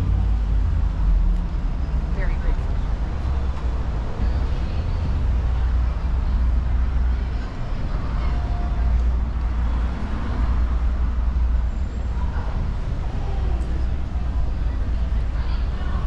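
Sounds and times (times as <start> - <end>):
passing cars and buses rumble: 0.0 - 16.0.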